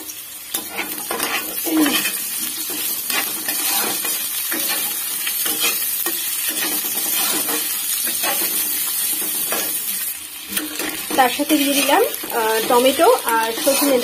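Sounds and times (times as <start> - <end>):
potato and onion sizzling in oil: 0.0 - 14.0
spatula scraping pan: 0.5 - 14.0.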